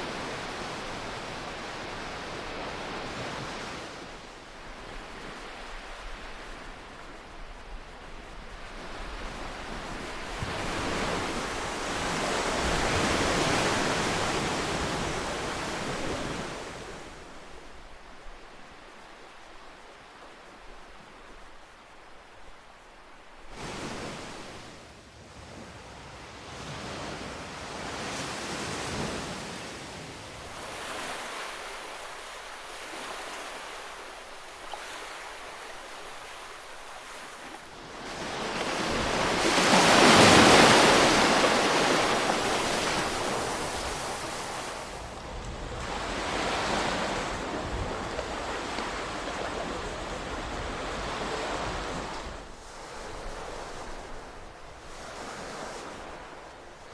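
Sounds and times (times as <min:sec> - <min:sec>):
ocean waves washing in: 0:00.0 - 0:56.9.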